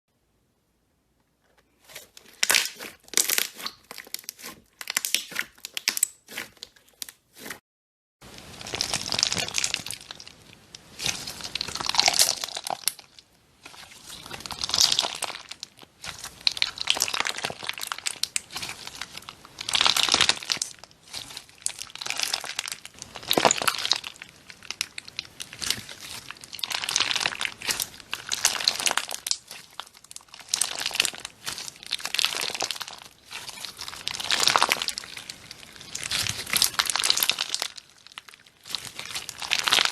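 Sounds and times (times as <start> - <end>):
slime crackling by hand: 1.8 - 7.6, 8.3 - 39.9.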